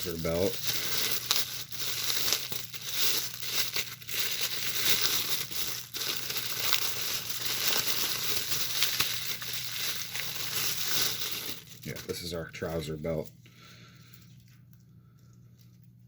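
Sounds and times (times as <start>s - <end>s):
packaging crinkling and rustling: 0.0s - 13.3s.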